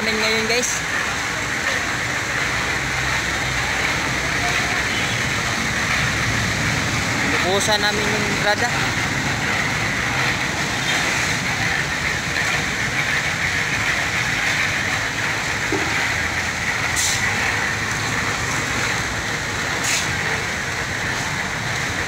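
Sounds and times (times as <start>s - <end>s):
concrete mixer running: 0.0s - 22.0s.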